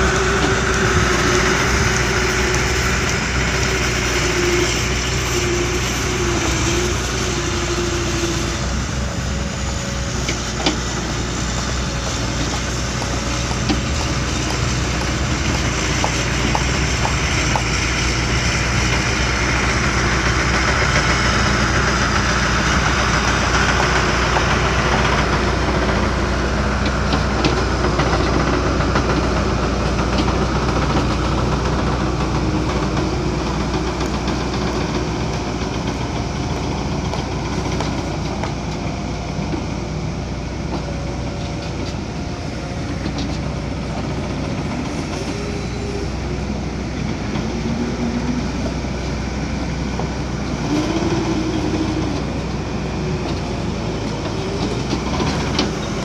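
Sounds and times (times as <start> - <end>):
diesel engine running: 0.0 - 56.0
hydraulic whines: 0.0 - 56.0.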